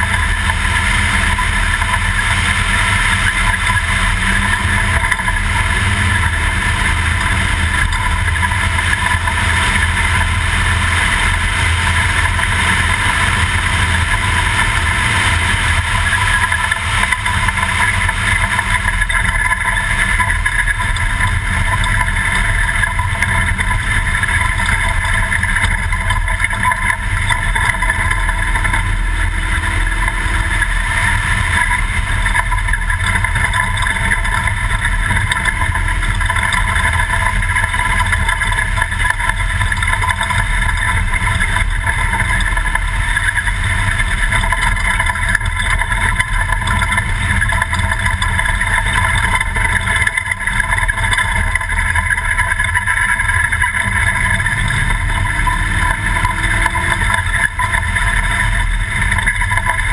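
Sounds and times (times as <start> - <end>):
drivetrain and road noise: 0.0 - 59.9
truck engine drone: 0.0 - 59.9.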